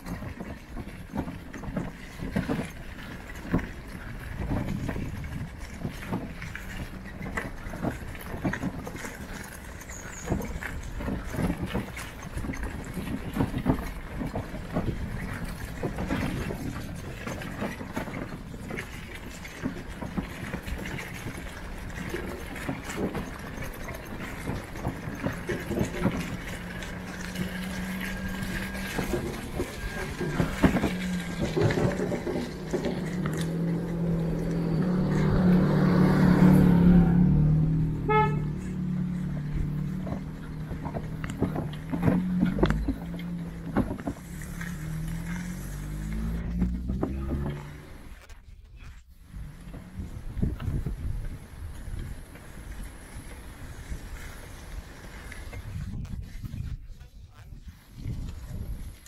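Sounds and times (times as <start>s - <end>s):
bicycle rumbling on rough track: 0.0s - 59.0s
bike rattling over bumps: 0.0s - 59.0s
vehicle engine humming: 0.0s - 59.0s.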